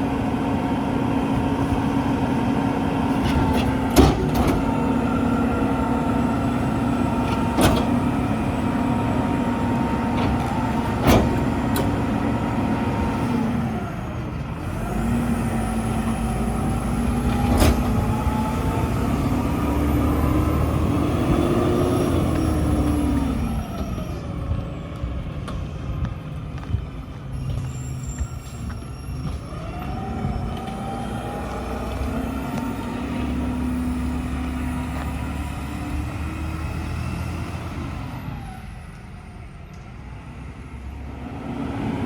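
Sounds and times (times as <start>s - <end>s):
garbage truck diesel engine: 0.0s - 42.0s.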